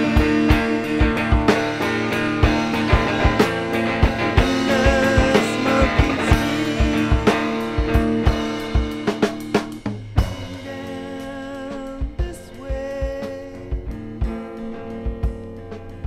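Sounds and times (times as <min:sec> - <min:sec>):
drum beat: 0:00.0 - 0:16.0
rock guitar chords: 0:00.0 - 0:16.0.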